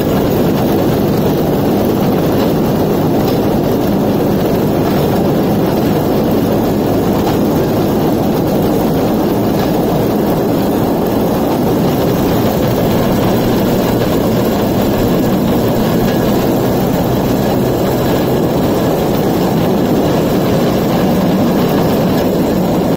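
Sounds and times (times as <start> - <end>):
steel wheels rolling on rails: 0.0 - 22.9
two-stroke engine running: 0.0 - 22.9.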